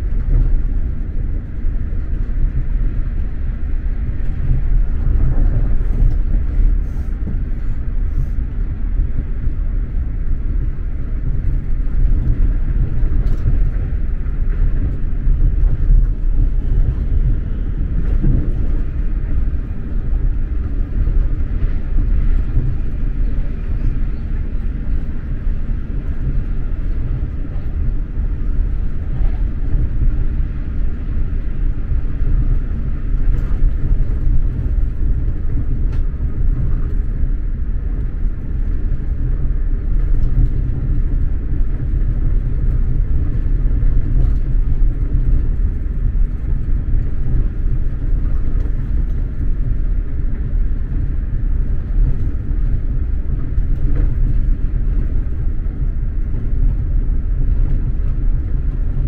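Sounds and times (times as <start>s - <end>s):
train rumble from inside: 0.0s - 59.0s.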